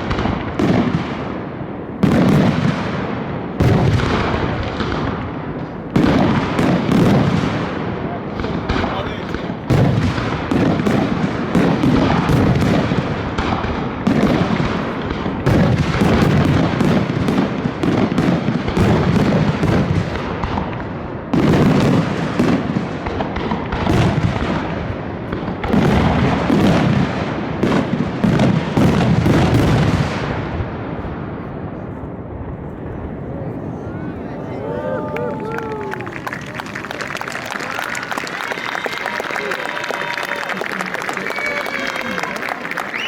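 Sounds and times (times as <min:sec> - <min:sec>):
heavy fireworks booms: 0:00.0 - 0:37.6
fireworks bangs and crackles: 0:00.0 - 0:43.0.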